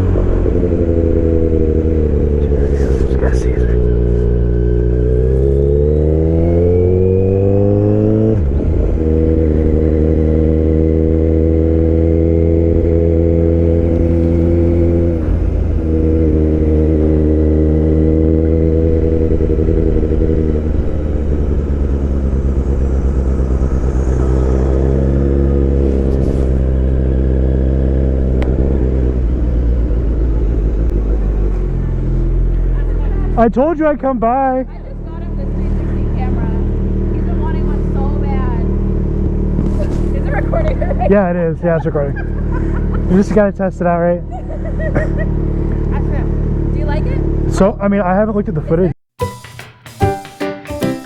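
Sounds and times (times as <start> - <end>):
motorcycle engine revving: 0.0 - 48.8.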